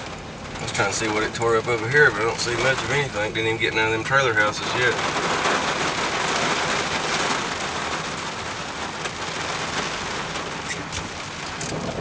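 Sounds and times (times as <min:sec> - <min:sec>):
rain pattering on a vehicle: 0:00.0 - 0:12.0.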